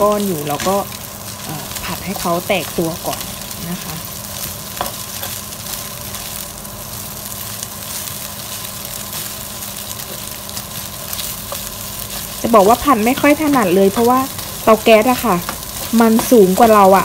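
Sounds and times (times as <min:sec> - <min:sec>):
rice and egg sizzling in a pan: 0:00.0 - 0:17.0.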